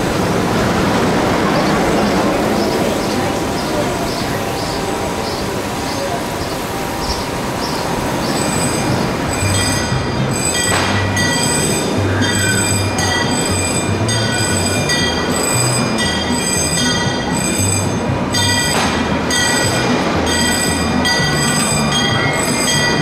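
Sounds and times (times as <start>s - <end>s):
low train rumble: 0.0s - 23.0s
train wheels squealing: 2.0s - 23.0s.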